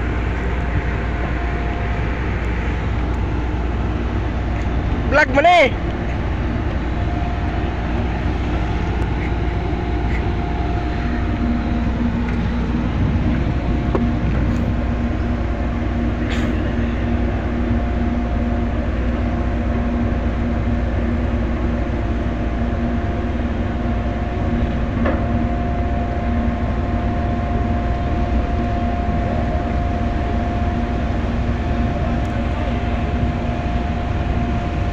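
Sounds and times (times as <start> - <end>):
diesel engines droning: 0.0 - 34.9
steady engine whine: 0.0 - 34.9.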